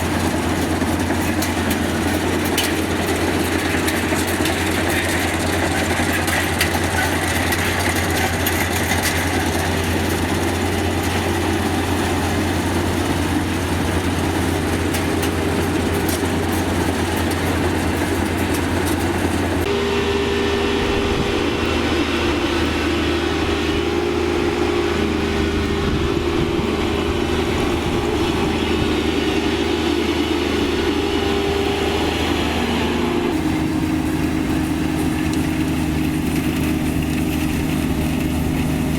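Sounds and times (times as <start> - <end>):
harvester diesel engine running: 0.0 - 38.9.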